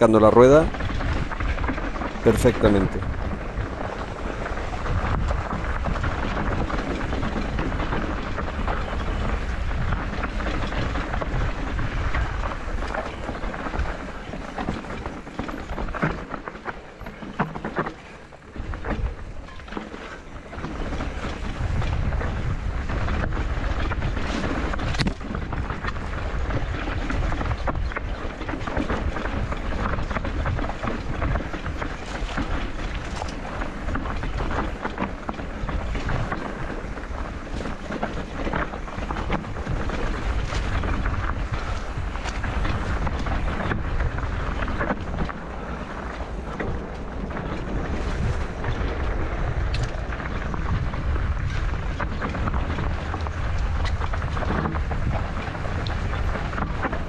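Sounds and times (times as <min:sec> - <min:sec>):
mountain bike clattering over rocks: 0:00.0 - 0:57.0
wheels and frame knocking on rocks: 0:00.0 - 0:57.0
wind rushing over microphone: 0:00.0 - 0:57.0.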